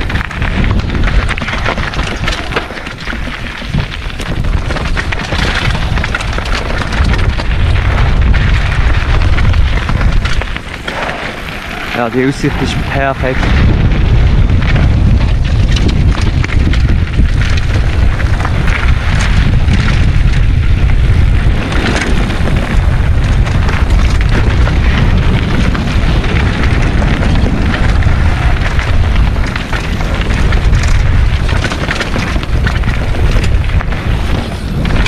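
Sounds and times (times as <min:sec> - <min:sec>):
bike clattering over stones: 0:00.0 - 0:35.0
wind buffeting microphone: 0:00.0 - 0:35.0.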